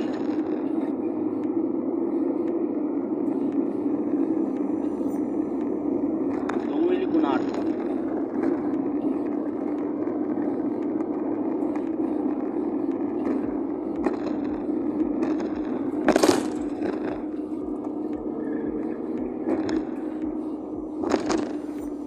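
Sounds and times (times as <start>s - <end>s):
car engine and road drone: 0.0s - 22.0s.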